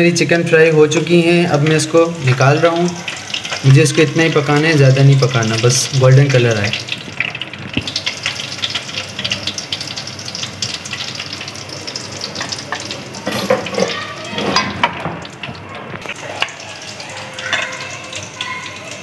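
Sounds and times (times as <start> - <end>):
hot oil sizzling and crackling: 0.0 - 19.0.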